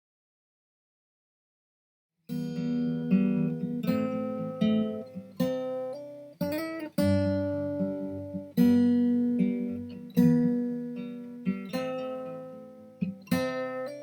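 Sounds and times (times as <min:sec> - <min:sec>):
acoustic guitar chords: 0:02.3 - 0:14.0.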